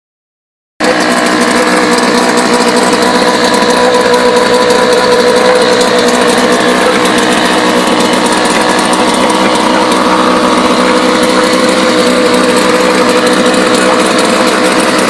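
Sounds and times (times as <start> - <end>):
outboard motor running: 0.8 - 15.0.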